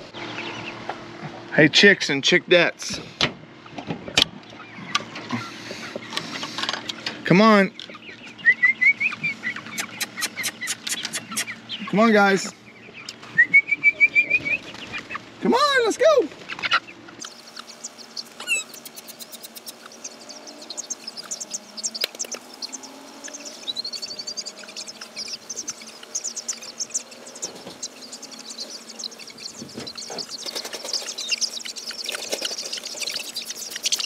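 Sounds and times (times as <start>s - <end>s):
chicks peeping and chirping: 0.0s - 1.5s, 2.8s - 34.0s.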